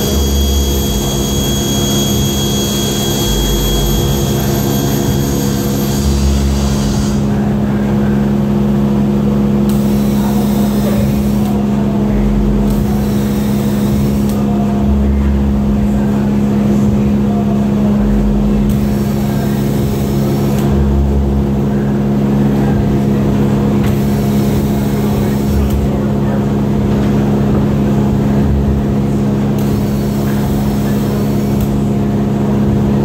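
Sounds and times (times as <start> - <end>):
workshop machinery drone: 0.0 - 33.0.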